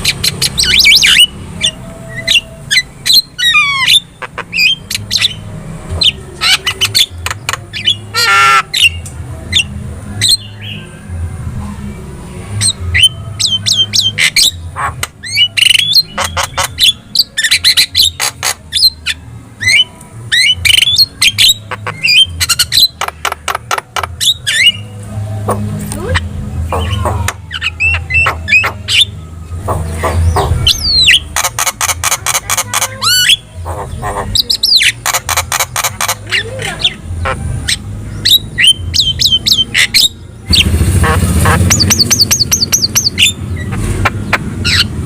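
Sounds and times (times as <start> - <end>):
myna bird singing: 0.0 - 45.0.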